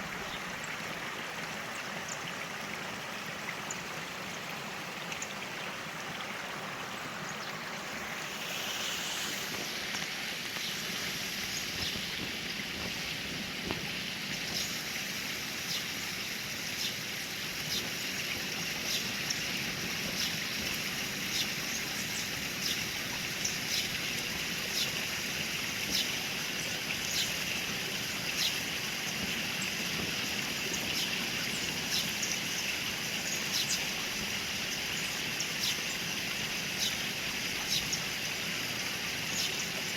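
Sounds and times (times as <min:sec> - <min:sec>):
water cascading from waterfalls: 0:00.0 - 0:39.9.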